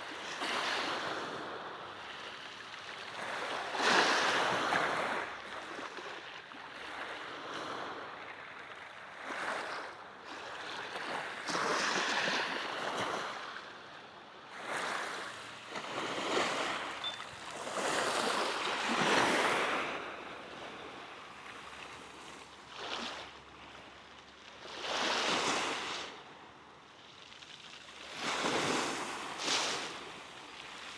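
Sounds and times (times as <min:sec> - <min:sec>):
sea waves breaking on shore: 0:00.0 - 0:30.9.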